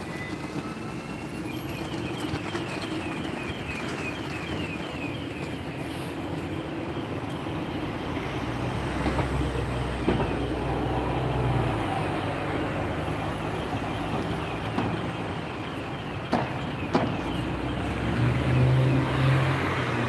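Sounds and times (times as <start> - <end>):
street traffic rumbling: 0.0 - 20.0.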